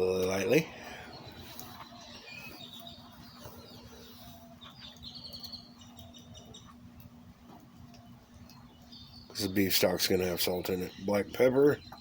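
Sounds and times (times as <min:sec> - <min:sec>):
steady low hum: 0:00.0 - 0:12.0
bird chirps and twitters: 0:00.2 - 0:12.0.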